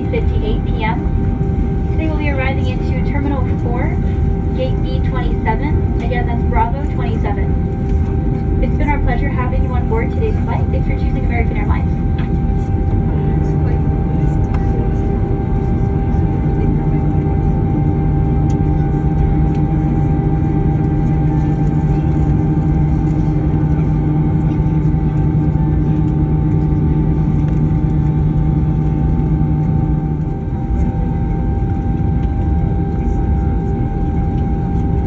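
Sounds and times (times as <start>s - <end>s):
jet engines idling: 0.0s - 35.0s.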